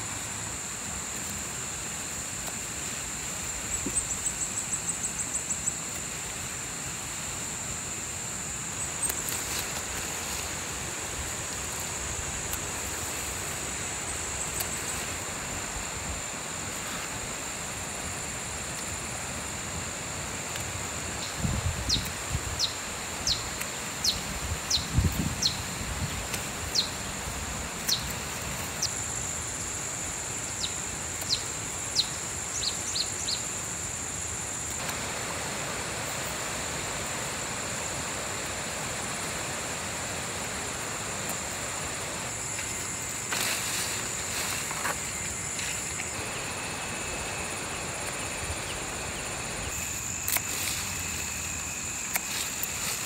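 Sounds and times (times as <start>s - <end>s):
high insect drone: 0.0s - 53.0s
rain hissing: 0.0s - 53.0s.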